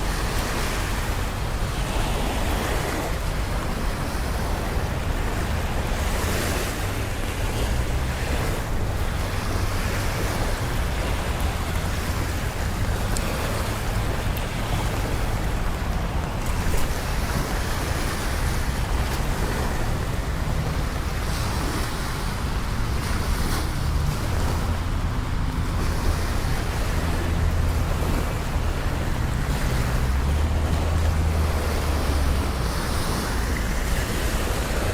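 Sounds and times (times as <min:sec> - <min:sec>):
city traffic rumble: 0:00.0 - 0:34.9.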